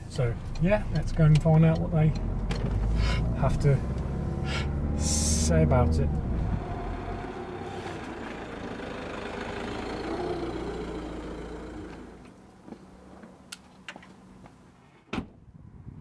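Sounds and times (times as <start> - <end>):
car driving up: 0.0 - 14.5.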